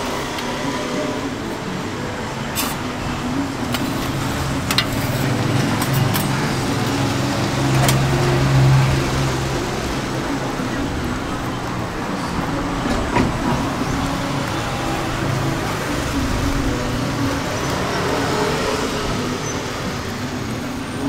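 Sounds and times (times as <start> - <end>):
noisy background: 0.0 - 21.0.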